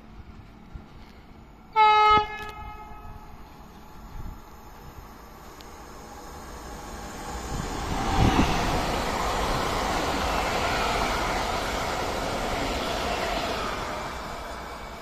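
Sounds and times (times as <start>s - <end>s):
high train whine: 0.0s - 15.0s
train wheels rumbling on rails: 0.0s - 15.0s.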